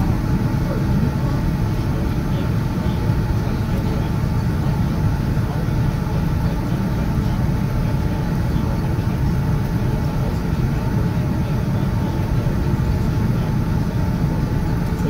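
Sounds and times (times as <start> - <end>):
airliner engines rumbling while taxiing: 0.0 - 15.0.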